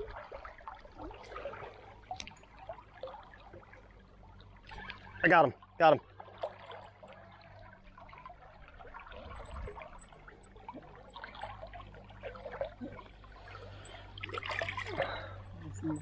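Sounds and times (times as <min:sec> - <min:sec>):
river water trickling and gurgling: 0:00.0 - 0:16.0
small water splashes: 0:00.0 - 0:16.0.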